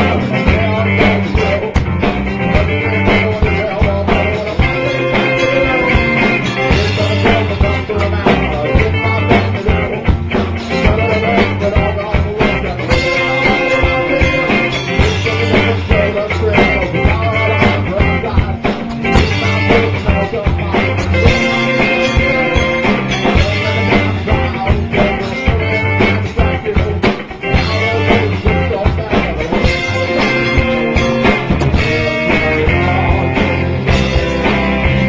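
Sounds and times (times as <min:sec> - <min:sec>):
drum kit steady beat: 0:00.0 - 0:35.0
rock band playing live: 0:00.0 - 0:35.0.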